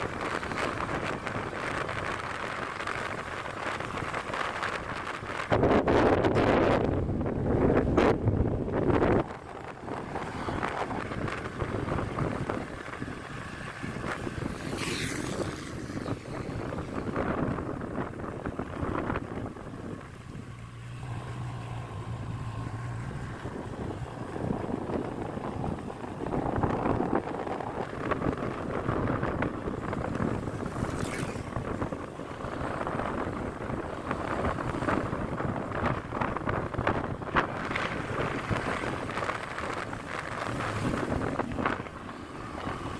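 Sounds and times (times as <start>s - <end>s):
road and engine rumble: 0.0s - 42.9s
wind buffeting the microphone: 0.0s - 42.9s.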